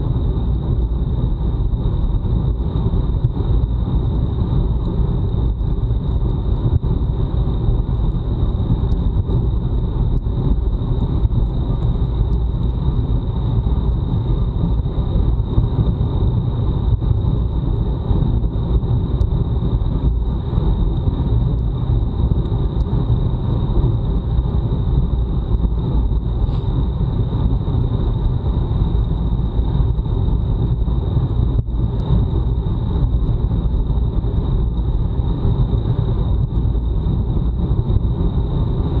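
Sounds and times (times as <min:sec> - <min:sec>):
wind rumbling over microphone: 0:00.0 - 0:39.0.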